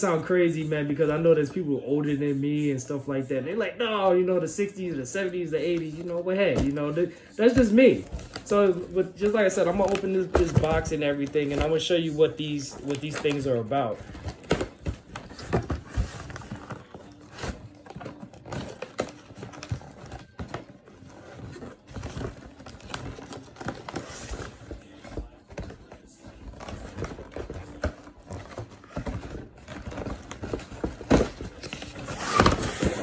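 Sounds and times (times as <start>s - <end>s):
paper rustling: 5.5s - 33.0s.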